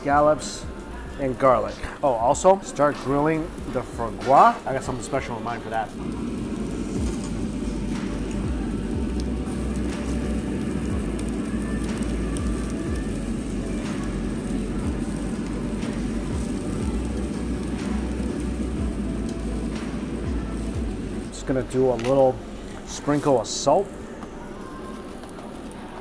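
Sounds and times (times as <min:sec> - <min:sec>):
food sizzling on a grill: 0:00.0 - 0:26.0.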